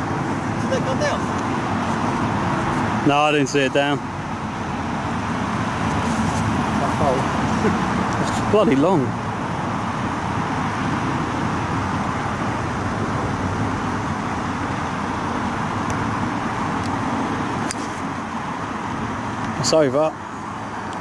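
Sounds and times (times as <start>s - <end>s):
outdoor rumble and hiss: 0.0s - 21.0s.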